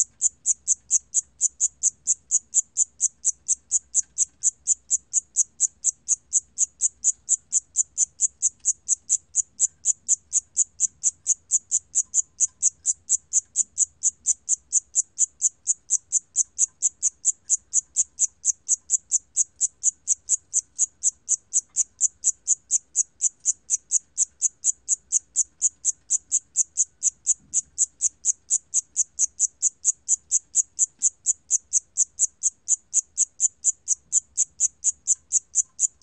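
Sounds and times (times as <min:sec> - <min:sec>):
cricket chirping: 0:00.0 - 0:36.0.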